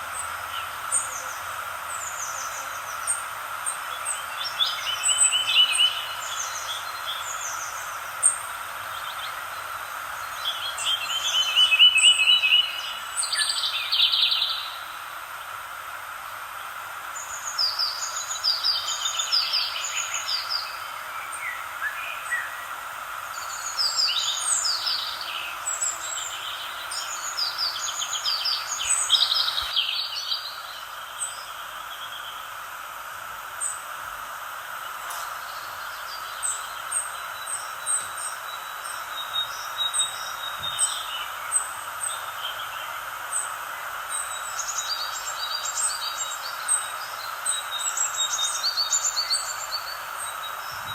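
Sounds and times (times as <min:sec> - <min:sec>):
songbirds chirping and trilling: 0:00.0 - 0:50.9
steady background hiss: 0:00.0 - 0:50.9.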